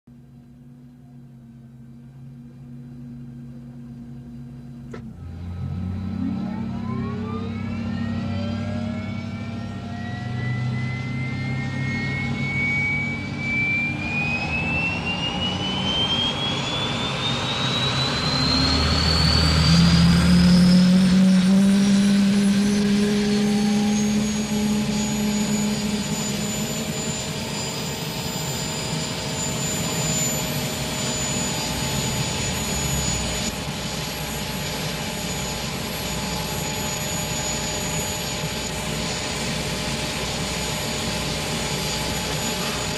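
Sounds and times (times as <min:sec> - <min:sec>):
rotor low hum: 0:00.1 - 0:42.9
helicopter turbine whine: 0:00.2 - 0:42.9.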